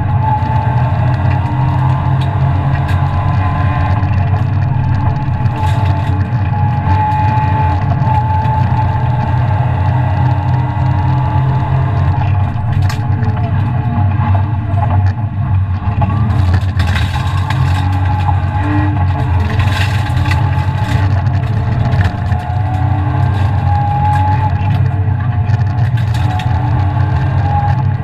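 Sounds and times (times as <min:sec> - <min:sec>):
car engine revving high: 0:00.0 - 0:28.0.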